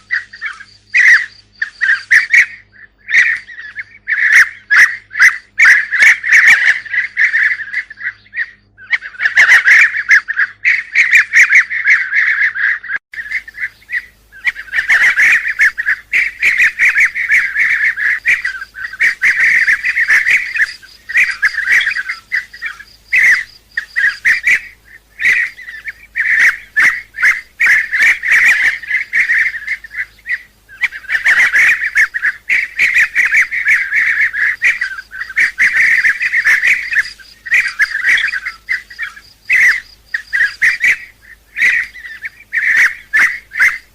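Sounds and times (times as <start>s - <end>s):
birds trilling calls: 0.0s - 43.9s.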